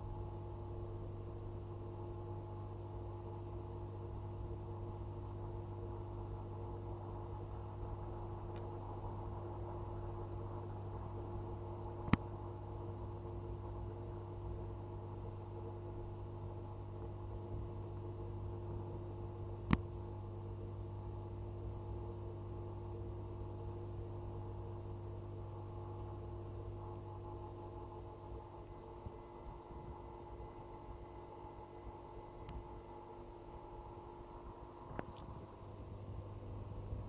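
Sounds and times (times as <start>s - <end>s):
aquarium equipment humming: 0.0s - 37.0s.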